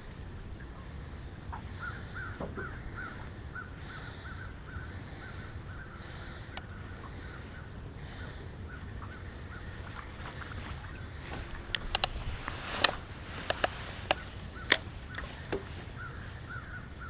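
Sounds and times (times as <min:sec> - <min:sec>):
low rumble of wind and water: 0:00.0 - 0:17.0.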